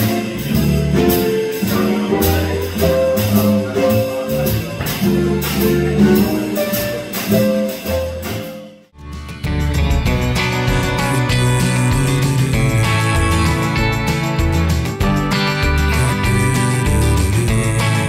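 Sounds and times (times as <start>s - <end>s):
double bass plucking: 0.0s - 18.0s
jazz melody line: 0.0s - 18.0s.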